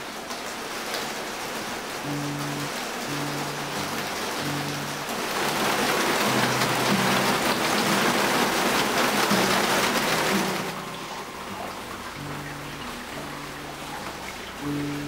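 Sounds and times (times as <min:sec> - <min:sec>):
heavy rain hissing: 0:00.0 - 0:15.0
soft background music: 0:02.0 - 0:15.0.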